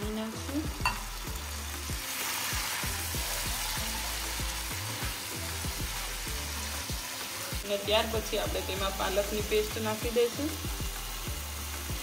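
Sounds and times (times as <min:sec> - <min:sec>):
background music with a beat: 0:00.0 - 0:12.0
gravy sizzling in a frying pan: 0:00.0 - 0:12.0.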